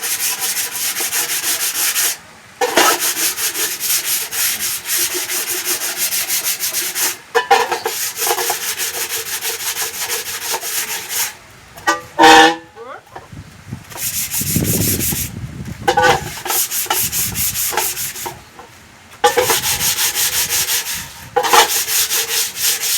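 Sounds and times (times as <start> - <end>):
sandpaper rubbing back and forth: 0.0 - 11.4, 13.9 - 22.9.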